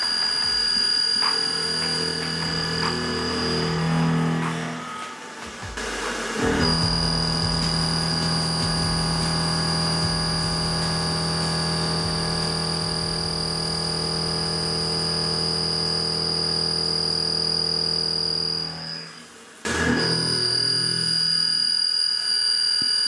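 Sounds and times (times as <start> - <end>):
low hum: 0.0 - 21.6
machine tool high-pitched whine: 0.0 - 23.0.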